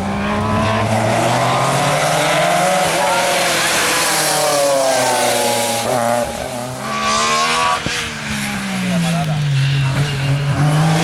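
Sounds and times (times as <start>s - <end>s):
rally car engine accelerating: 0.0s - 11.0s
tyre and road noise: 0.0s - 11.0s.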